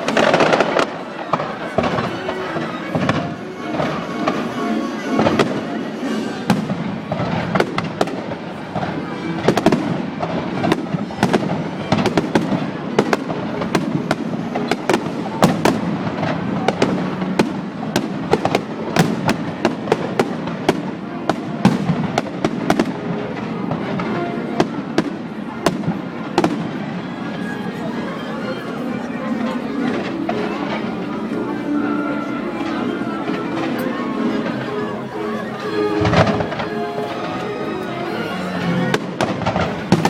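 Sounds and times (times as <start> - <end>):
fireworks bangs and crackles: 0.0 - 40.0
music: 0.0 - 40.0.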